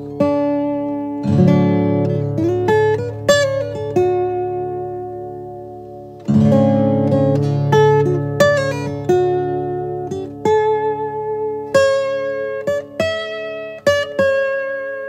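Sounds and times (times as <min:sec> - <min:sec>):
plucked string chords ringing: 0:00.0 - 0:15.0.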